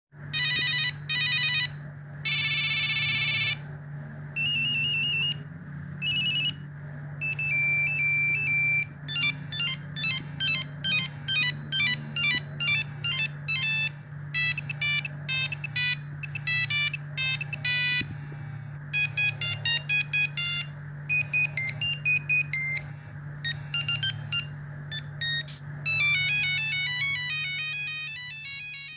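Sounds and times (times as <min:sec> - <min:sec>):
steady low hum: 0:00.2 - 0:28.9
monophonic phone ringtone beeping: 0:00.3 - 0:03.7, 0:04.4 - 0:18.2, 0:18.9 - 0:28.9.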